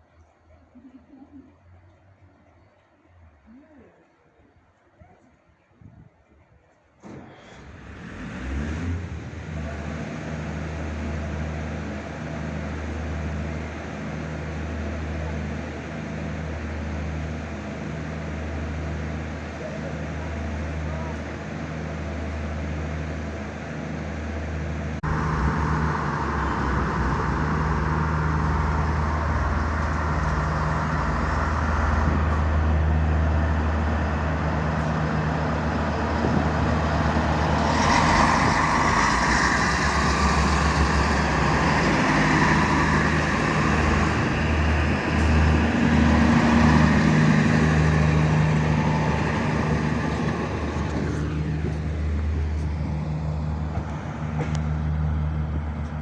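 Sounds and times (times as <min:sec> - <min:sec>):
train diesel engines running: 0:00.0 - 0:56.0.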